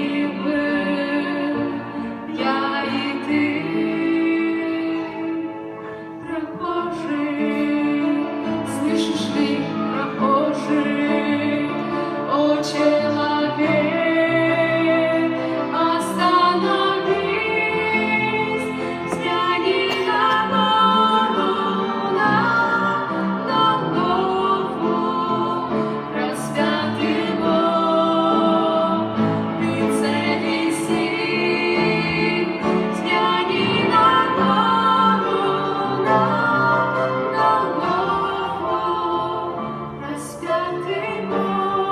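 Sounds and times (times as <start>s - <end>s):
musical accompaniment: 0.0s - 41.9s
women singing: 0.0s - 41.9s.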